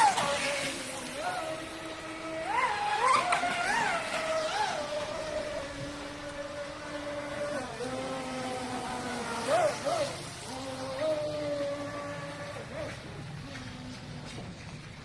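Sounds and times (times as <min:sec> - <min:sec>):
electric motor whine: 0:00.0 - 0:14.3.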